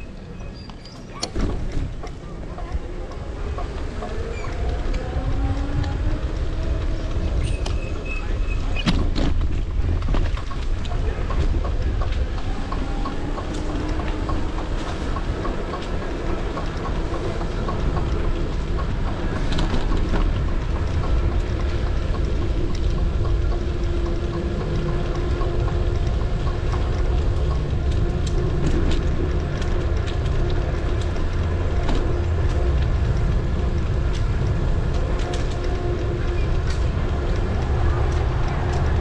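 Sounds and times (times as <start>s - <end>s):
bicycle rolling over asphalt: 0.0s - 39.0s
bike ticks and rattles: 0.0s - 39.0s
wind buffeting microphone: 0.0s - 39.0s.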